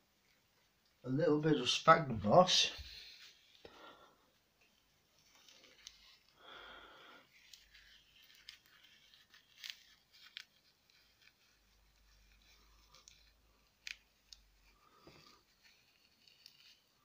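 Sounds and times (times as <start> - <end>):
dry moss crackling and rustling: 0.2 - 17.0.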